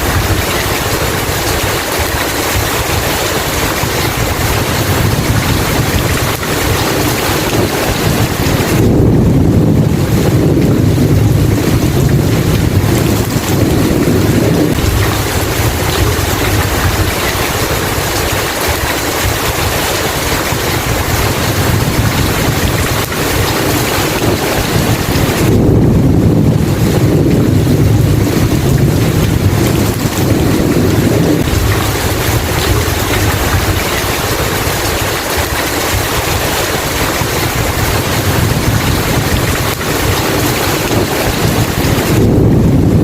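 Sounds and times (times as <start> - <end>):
heavy rain: 0.0 - 43.0
rolling thunder: 0.0 - 43.0.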